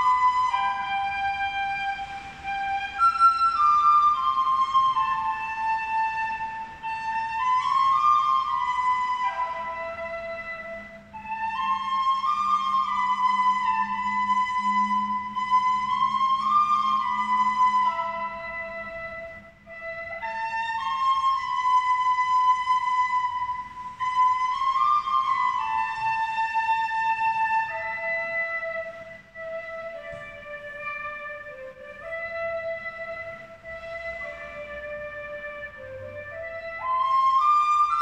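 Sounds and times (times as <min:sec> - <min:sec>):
flute-like melody: 0:00.0 - 0:38.0.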